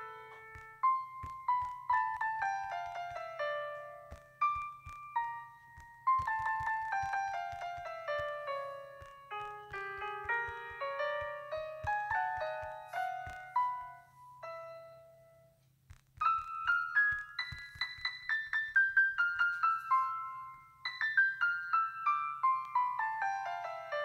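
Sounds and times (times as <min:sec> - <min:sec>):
light piano melody: 0:00.0 - 0:24.0.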